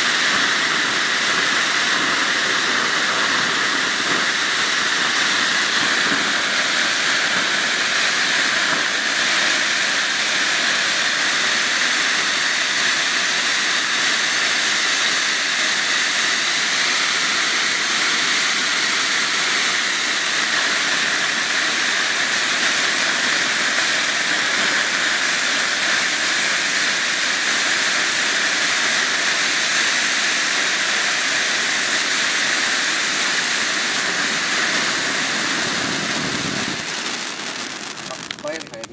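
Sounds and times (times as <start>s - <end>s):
fireworks fountain hissing: 0.0s - 38.9s.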